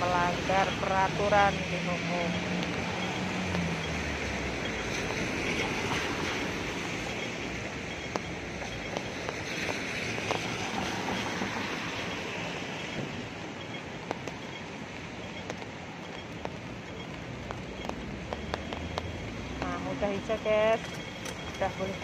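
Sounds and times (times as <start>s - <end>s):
heavy rain on street and umbrella: 0.0s - 22.0s.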